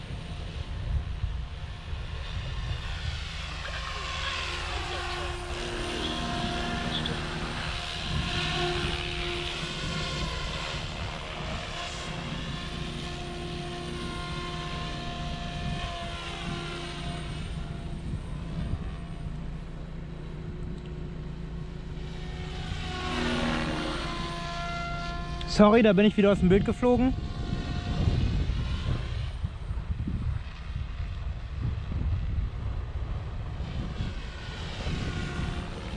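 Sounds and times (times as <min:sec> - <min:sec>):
electric helicopter motor whine: 0:00.0 - 0:35.9.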